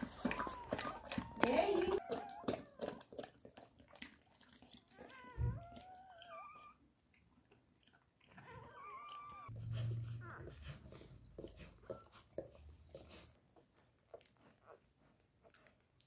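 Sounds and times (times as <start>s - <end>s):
dog licking with wet clicks: 0.0s - 16.0s.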